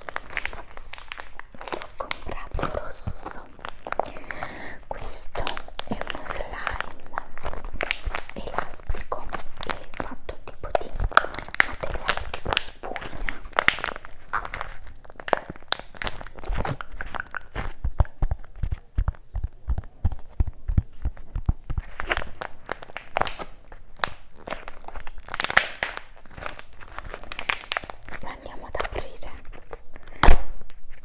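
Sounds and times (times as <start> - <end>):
packaging crinkling and tearing: 0.0 - 31.0.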